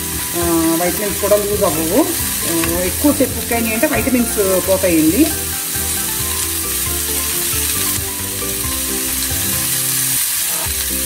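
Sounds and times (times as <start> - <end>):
spatula stirring in pan: 0.0 - 11.0
vegetables sizzling in frying pan: 0.0 - 11.0.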